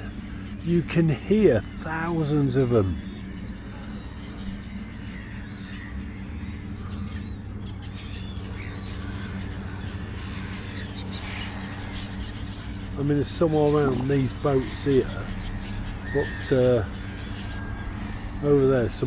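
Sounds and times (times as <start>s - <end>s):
distant flock of birds calling: 0.0s - 19.0s
steady low hum: 0.0s - 19.0s.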